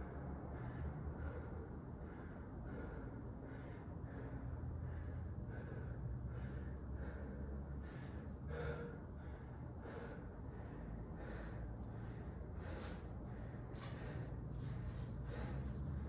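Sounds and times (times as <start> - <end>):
person breathing hard: 0.0 - 16.0
steady low hum: 0.0 - 16.0.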